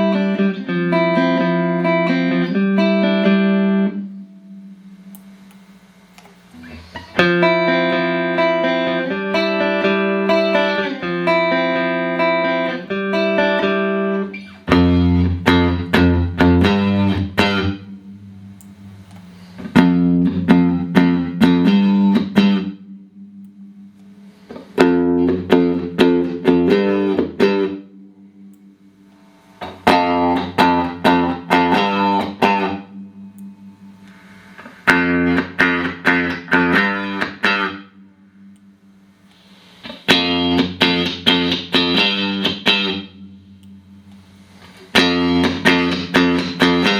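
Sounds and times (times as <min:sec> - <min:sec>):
clean electric guitar: 0:00.0 - 0:46.9.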